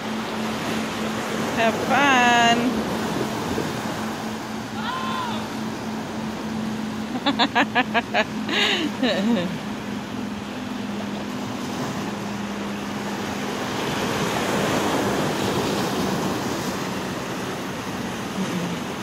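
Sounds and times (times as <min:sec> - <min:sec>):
surf washing around rocks: 0:00.0 - 0:19.0.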